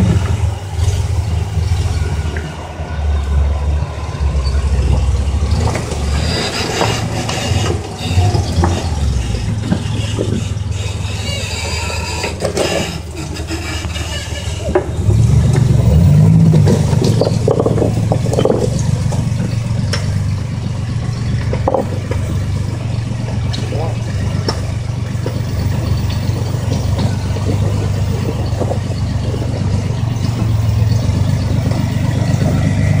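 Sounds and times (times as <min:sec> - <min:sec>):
buggy engine running at low revs: 0:00.0 - 0:33.0.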